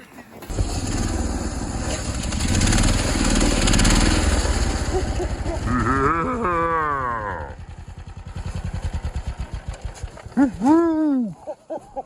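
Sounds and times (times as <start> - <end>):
mini bike engine running hard: 0.5 - 10.8.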